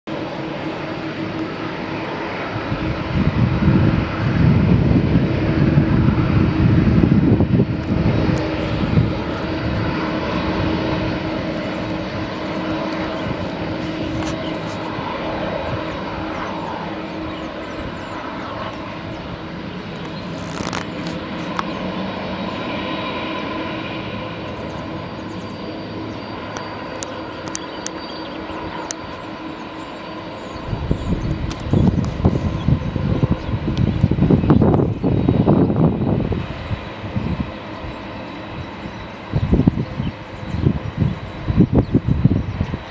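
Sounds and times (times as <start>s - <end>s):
jet engine whine: 0.1s - 42.9s.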